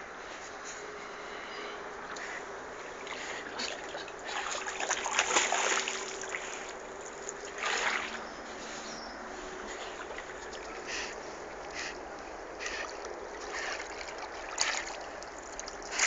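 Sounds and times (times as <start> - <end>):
water splashing and sloshing: 2.1 - 16.0.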